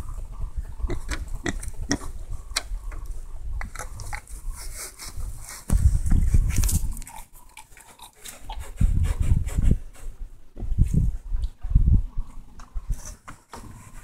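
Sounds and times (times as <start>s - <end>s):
boars rooting and feeding: 0.0s - 14.0s.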